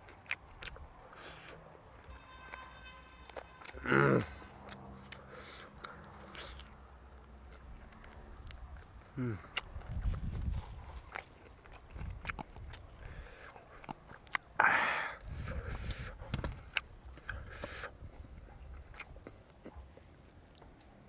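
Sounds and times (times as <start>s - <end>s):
person chewing with mouth smacks: 0.0s - 2.6s, 3.2s - 21.0s.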